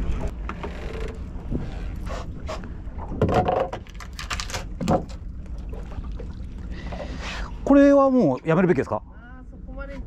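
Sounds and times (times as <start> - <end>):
fishing boat engine rumble: 0.0 - 10.0.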